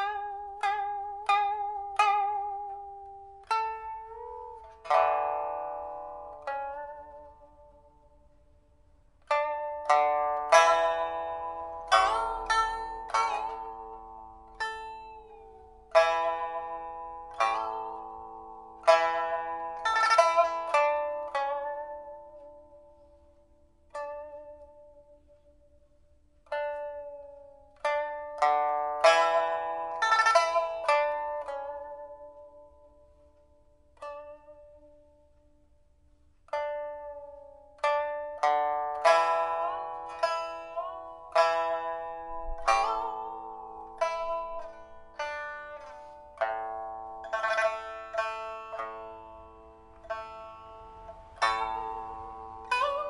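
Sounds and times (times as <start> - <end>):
plucked pipa notes: 0.0 - 53.0.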